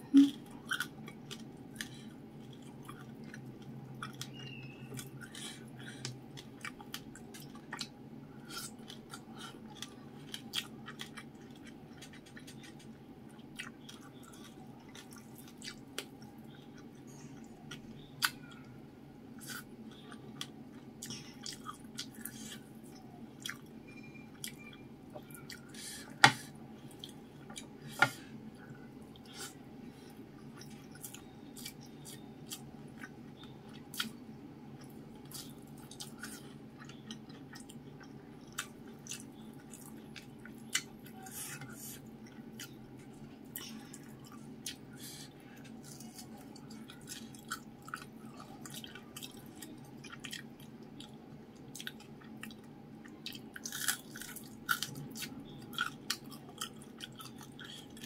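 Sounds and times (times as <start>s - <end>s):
chewing crispy food: 0.0s - 58.0s
steady low hum: 0.0s - 58.0s.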